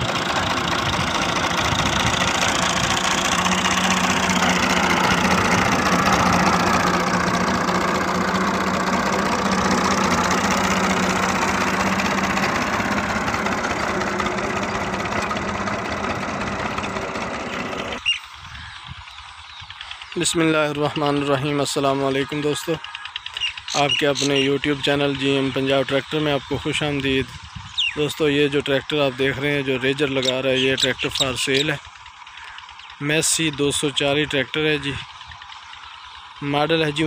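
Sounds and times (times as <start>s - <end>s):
tractor diesel engine under load: 0.0s - 27.3s, 28.0s - 37.0s.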